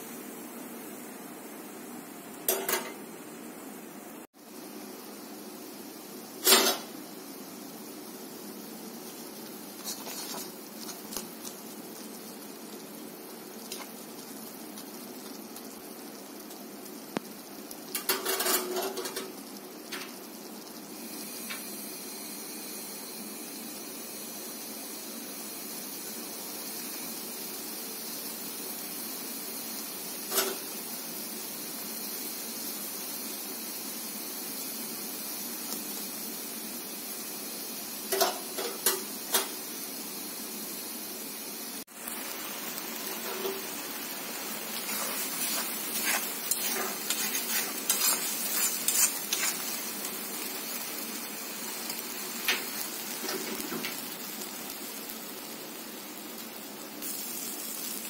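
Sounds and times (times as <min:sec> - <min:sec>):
water boiling with bubbling hiss: 0:00.0 - 0:58.0.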